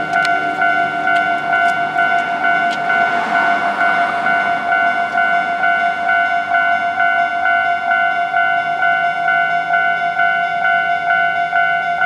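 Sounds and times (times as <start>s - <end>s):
diesel railcar running: 0.0s - 12.0s
level crossing bell ringing: 0.0s - 12.0s.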